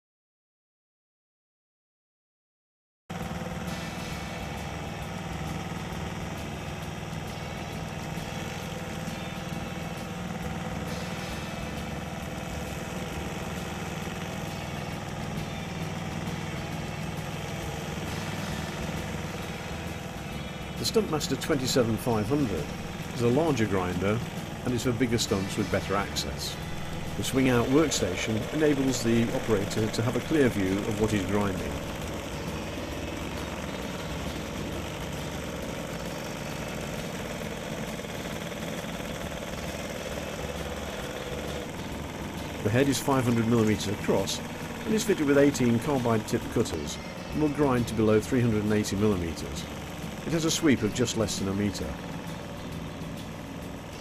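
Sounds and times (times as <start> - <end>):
stump grinder engine running: 3.1 - 54.0.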